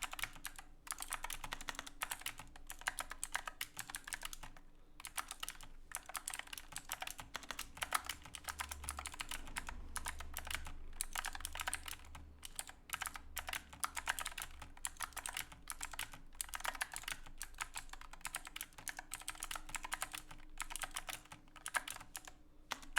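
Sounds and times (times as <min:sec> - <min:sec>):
fast typing on mechanical keyboard: 0:00.0 - 0:22.9.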